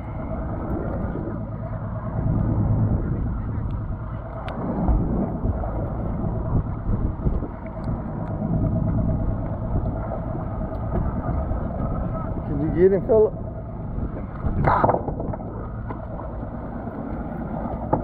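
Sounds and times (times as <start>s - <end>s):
faint steady hum: 0.0s - 18.0s
low rumble: 0.0s - 18.0s
water noise: 0.0s - 18.0s
wind: 0.0s - 18.0s.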